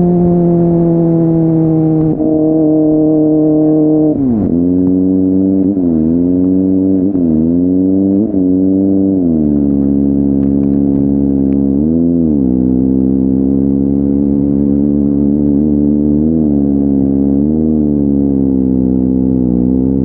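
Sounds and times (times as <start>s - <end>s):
motorcycle engine running loud: 0.0s - 20.0s.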